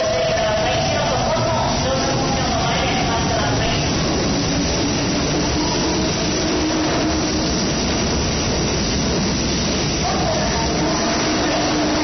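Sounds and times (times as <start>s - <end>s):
electric train pulling out: 0.0s - 12.0s.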